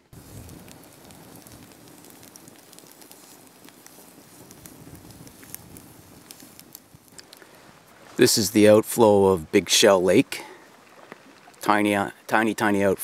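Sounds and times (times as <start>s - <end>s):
campfire flame hissing: 0.0s - 12.4s
fire crackling and popping: 0.0s - 13.0s.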